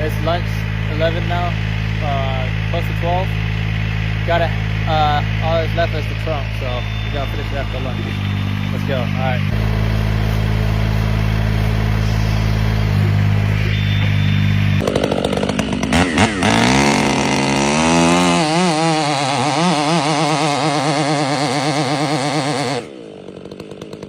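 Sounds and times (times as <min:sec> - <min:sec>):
chainsaw running: 0:00.0 - 0:24.0
motor running steadily: 0:00.0 - 0:24.0.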